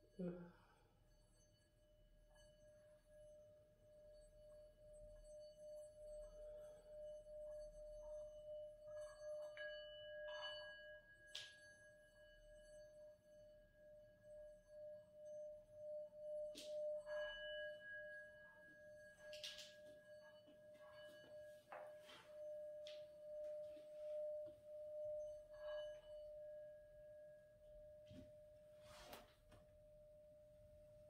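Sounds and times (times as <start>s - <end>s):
faint pulsing ringing tone: 0.0s - 31.0s.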